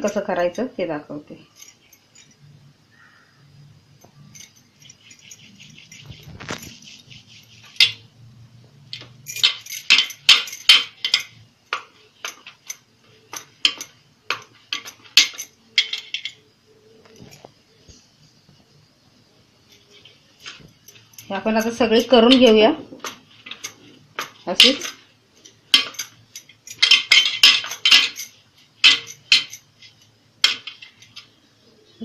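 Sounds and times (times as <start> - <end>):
bangles jingling and clinking: 0.0 - 17.7, 19.6 - 32.0.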